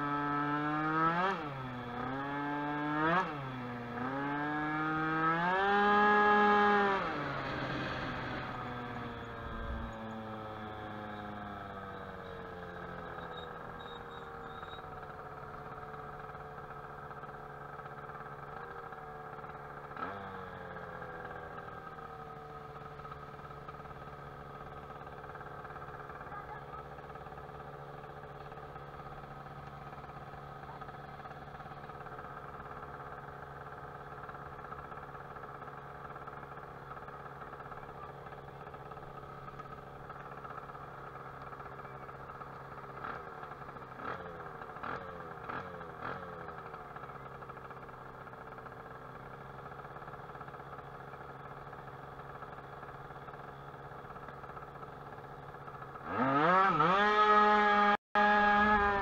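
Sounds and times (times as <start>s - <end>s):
scooter engine idling and revving: 0.0s - 59.0s.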